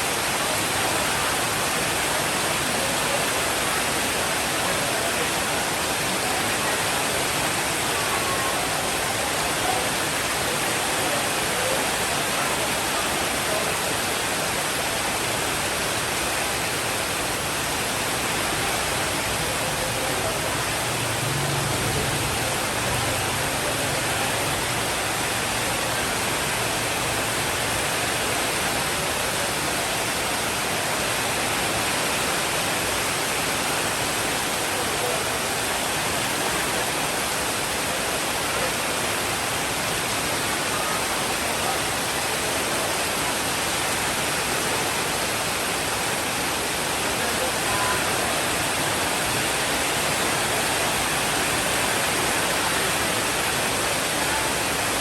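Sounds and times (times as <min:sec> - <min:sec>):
dense rainfall hiss: 0:00.0 - 0:55.0.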